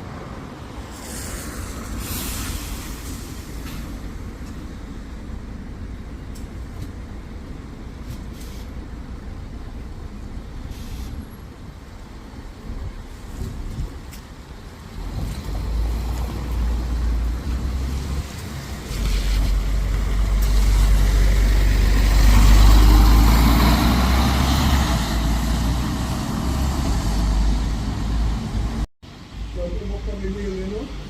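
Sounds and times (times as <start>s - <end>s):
bus engine rumble: 0.0s - 31.0s
road noise: 0.0s - 31.0s.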